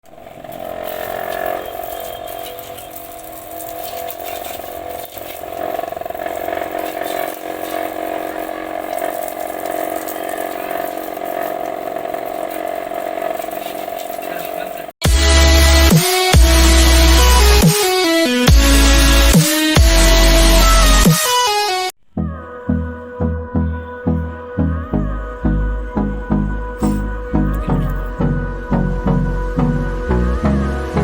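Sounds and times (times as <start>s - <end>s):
electric motor whining: 0.0s - 21.9s, 22.5s - 31.0s.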